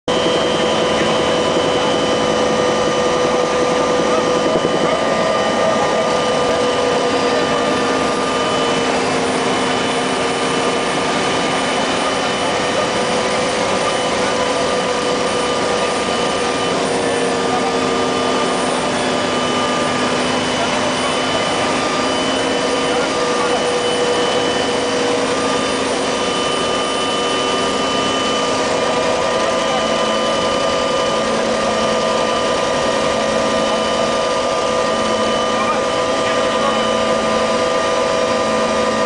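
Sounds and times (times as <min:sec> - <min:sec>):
helicopter engine whine: 0:00.0 - 0:39.0
rotor and airframe noise: 0:00.1 - 0:39.0.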